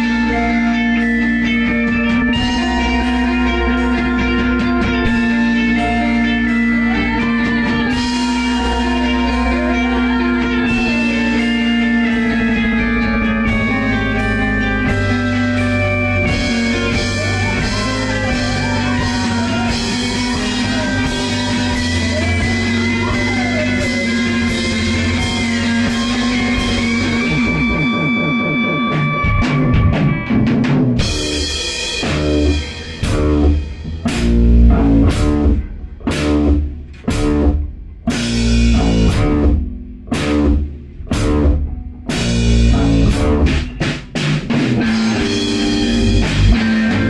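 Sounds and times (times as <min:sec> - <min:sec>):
bending lead guitar lines: 0:00.0 - 0:47.0
instrumental rock band playing: 0:00.0 - 0:47.0
drum fill: 0:02.0 - 0:47.0.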